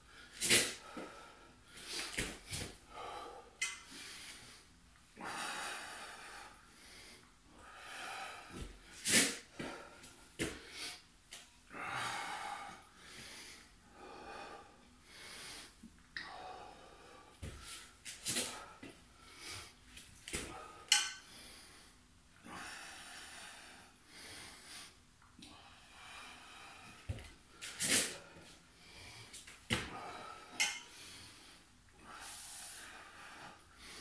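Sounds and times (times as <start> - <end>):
man breathing heavily: 0.0 - 34.0.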